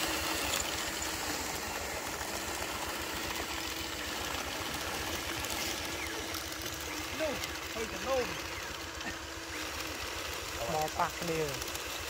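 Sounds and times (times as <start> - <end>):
model bulldozer mechanical drone: 0.0 - 12.0.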